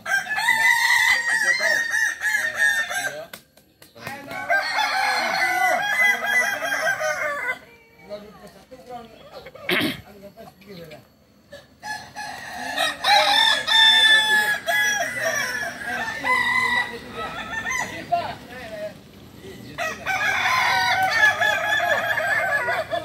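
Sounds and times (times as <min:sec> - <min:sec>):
roosters crowing: 0:00.0 - 0:03.4, 0:04.0 - 0:08.4, 0:11.3 - 0:23.0.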